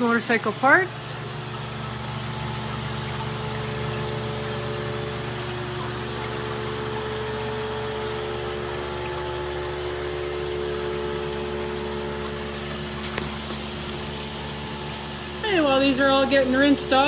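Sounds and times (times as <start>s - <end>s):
small motor humming: 0.2s - 17.0s.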